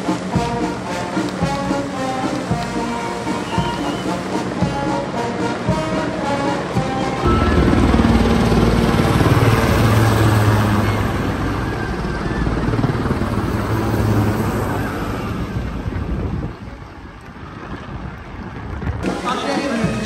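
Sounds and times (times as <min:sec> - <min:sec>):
deep engine hum: 0:00.0 - 0:16.8
helicopter rotor chop: 0:00.0 - 0:20.0.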